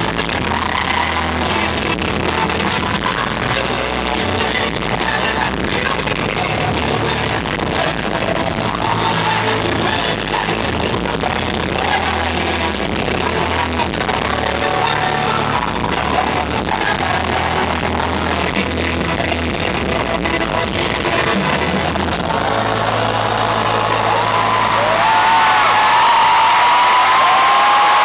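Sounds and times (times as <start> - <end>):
live pop song with female vocal: 0.0 - 26.0
heavy bass: 0.0 - 28.0.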